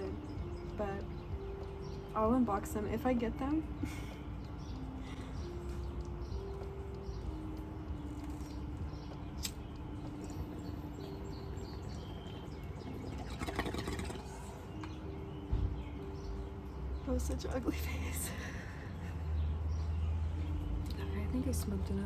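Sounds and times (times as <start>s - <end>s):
low hum shifting pitch: 0.0s - 22.0s
small birds chirping: 0.0s - 22.0s.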